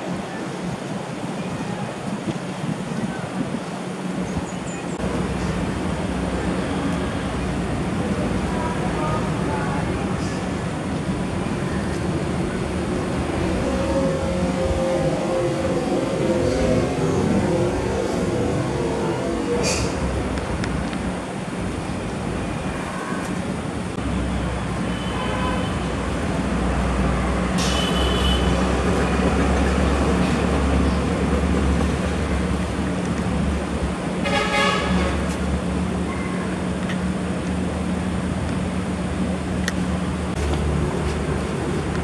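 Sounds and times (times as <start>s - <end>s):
road traffic rumble: 0.0s - 42.0s
engine hum: 5.0s - 25.1s, 25.7s - 42.0s.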